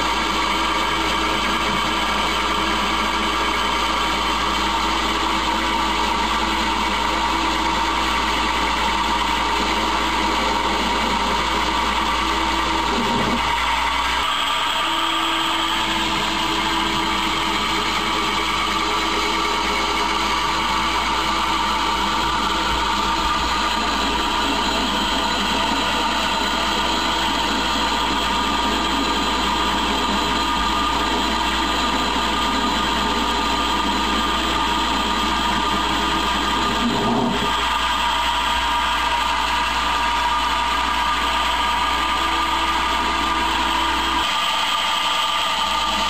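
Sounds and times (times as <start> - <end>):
lathe cutting metal: 0.0 - 46.0.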